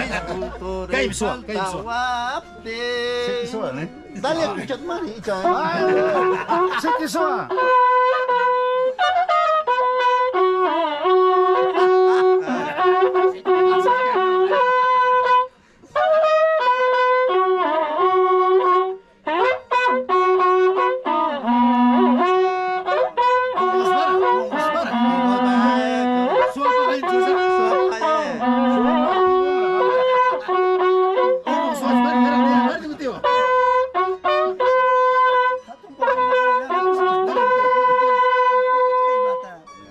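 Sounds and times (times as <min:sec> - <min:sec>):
horn trumpets playing melody: 0:00.0 - 0:39.9.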